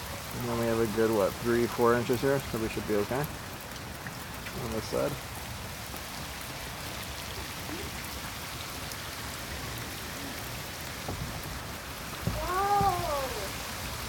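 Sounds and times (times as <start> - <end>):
heavy rain on pool: 0.0 - 14.0.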